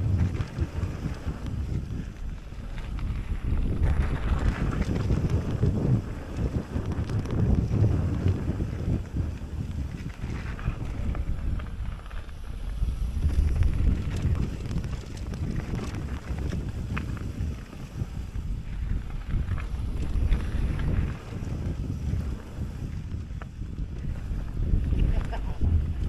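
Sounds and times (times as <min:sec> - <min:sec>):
bike clicks and rattles: 0:00.0 - 0:26.0
tyres rolling on dirt trail: 0:00.0 - 0:26.0
wind buffeting microphone: 0:00.0 - 0:26.0.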